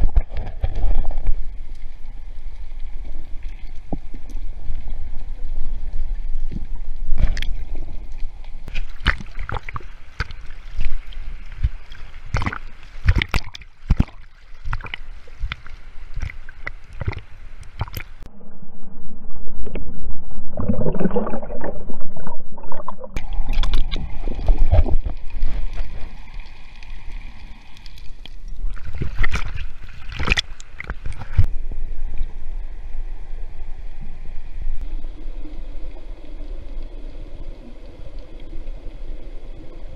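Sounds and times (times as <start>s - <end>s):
muffled underwater water gurgling: 0.0s - 39.9s.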